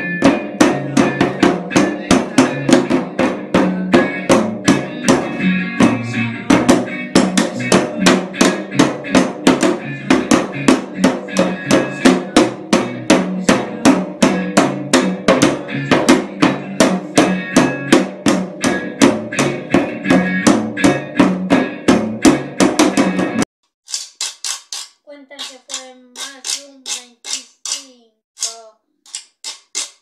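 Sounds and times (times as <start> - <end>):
snare drum steady beat: 0.0 - 30.0.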